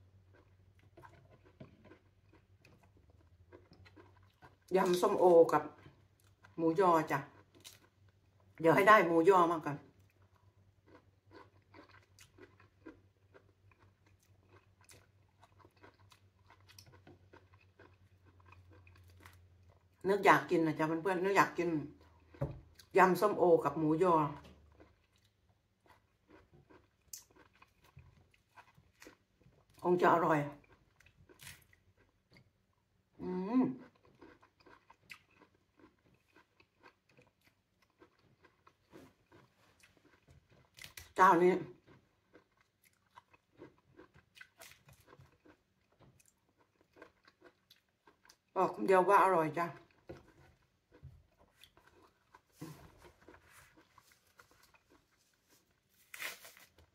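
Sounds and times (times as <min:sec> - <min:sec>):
faint wet chewing: 0:00.0 - 0:08.6, 0:09.7 - 0:20.0, 0:21.6 - 0:23.0, 0:23.6 - 0:33.0, 0:33.7 - 0:48.7, 0:49.6 - 0:56.9.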